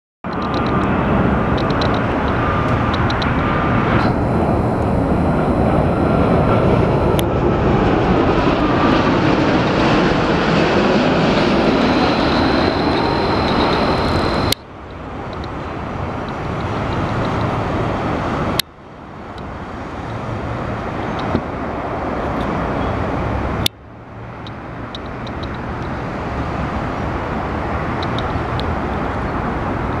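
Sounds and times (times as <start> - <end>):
jet engines rushing: 0.3 - 30.0.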